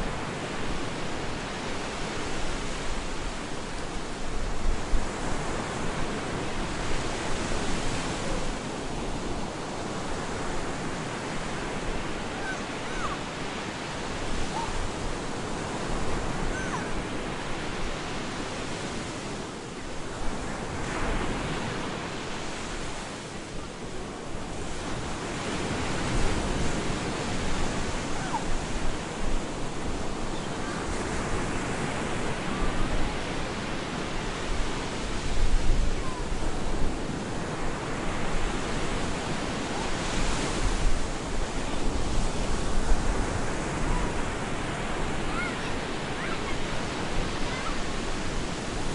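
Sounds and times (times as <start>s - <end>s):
surf breaking on a beach: 0.0s - 48.9s.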